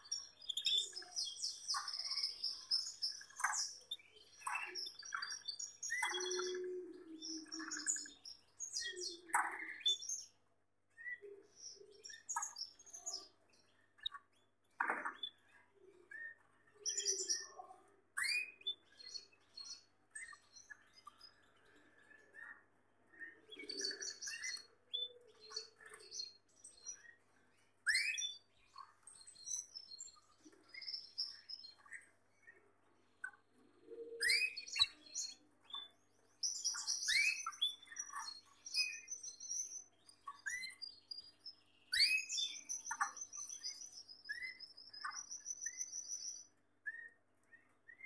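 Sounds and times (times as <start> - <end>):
canaries chirping: 0.0 - 10.3, 11.1 - 15.5, 16.1 - 32.5, 33.2 - 48.0.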